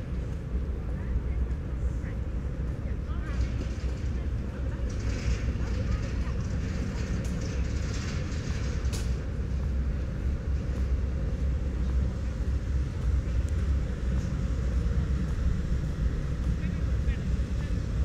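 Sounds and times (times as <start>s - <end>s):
large vehicle engine rumble: 0.0s - 18.0s.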